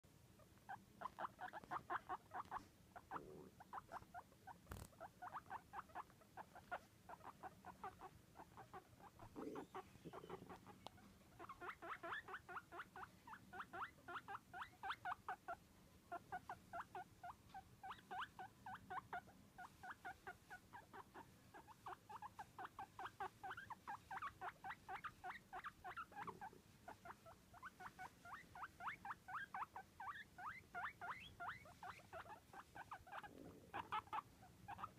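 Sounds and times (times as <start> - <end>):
guinea pig chutting: 0.4 - 34.9.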